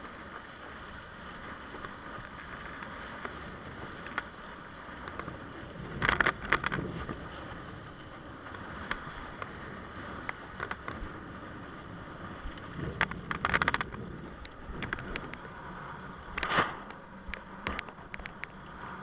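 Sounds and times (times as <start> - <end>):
water rushing along a board hull: 0.0 - 19.0.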